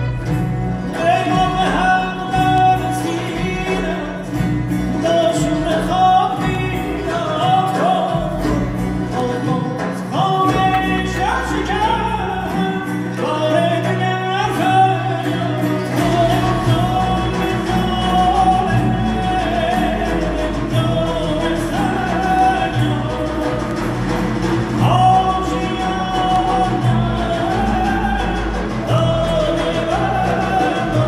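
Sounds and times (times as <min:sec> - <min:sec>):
ensemble of strings and percussion: 0:00.0 - 0:31.0.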